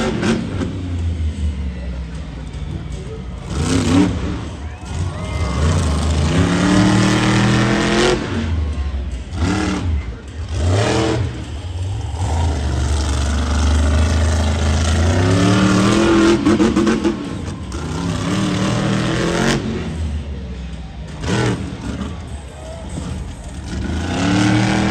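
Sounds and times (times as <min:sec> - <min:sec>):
monster truck engine revving: 0:00.0 - 0:24.9.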